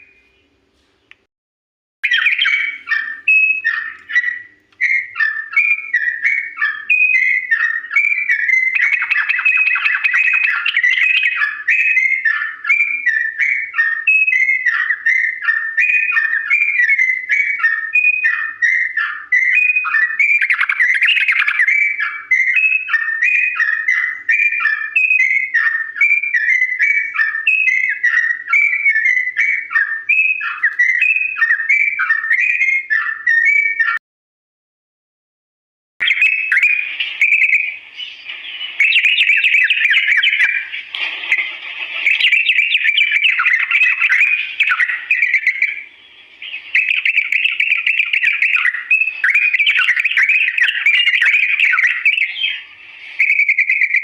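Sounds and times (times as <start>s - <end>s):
bird singing: 0.0s - 1.3s, 2.0s - 34.0s, 36.0s - 54.0s.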